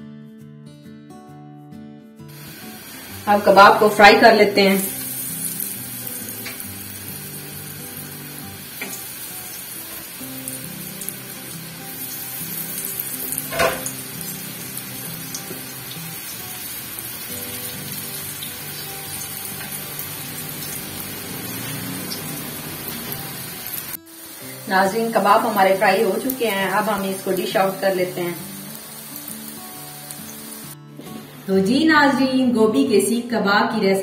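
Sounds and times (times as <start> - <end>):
food sizzling in oil: 2.3 - 31.5.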